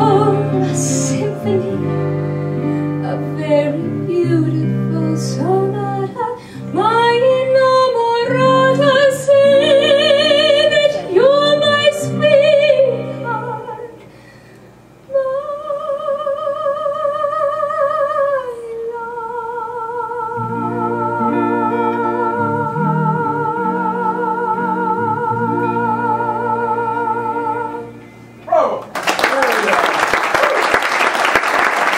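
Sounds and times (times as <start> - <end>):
woman singing: 0.0 - 2.0, 2.9 - 14.0, 15.1 - 28.0
piano: 0.0 - 14.0, 15.2 - 28.7
guitar: 0.0 - 14.7, 17.7 - 28.9.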